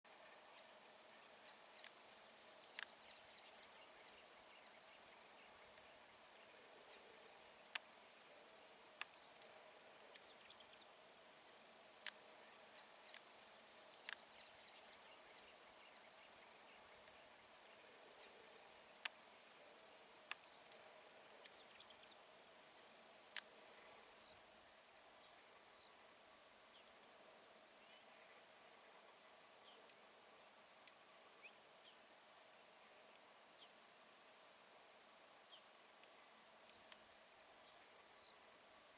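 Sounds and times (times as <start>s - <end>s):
insects trilling: 0.1s - 32.2s.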